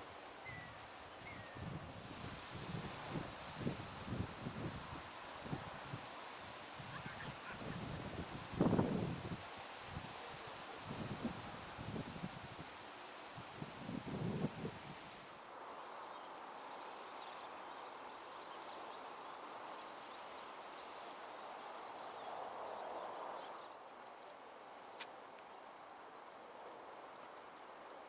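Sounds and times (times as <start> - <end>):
rustle: 0.0 - 28.0
steady rushing hiss: 0.0 - 28.0.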